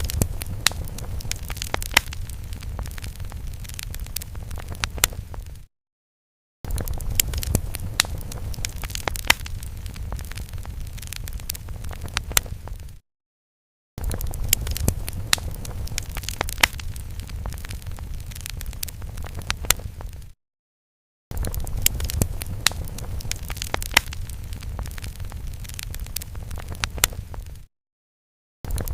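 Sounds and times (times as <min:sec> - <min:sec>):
fire crackling: 0:00.0 - 0:05.7, 0:06.7 - 0:13.0, 0:14.0 - 0:20.4, 0:21.3 - 0:27.7, 0:28.7 - 0:28.9.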